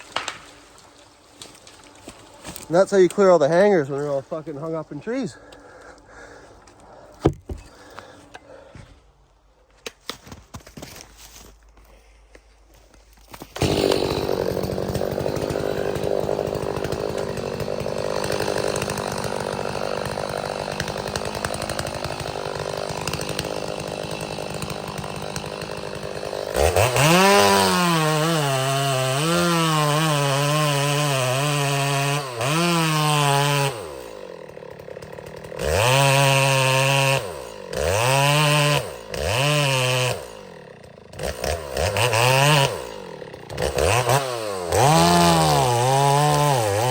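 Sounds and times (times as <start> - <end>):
chainsaw cutting wood: 0.0 - 8.5, 13.2 - 46.9.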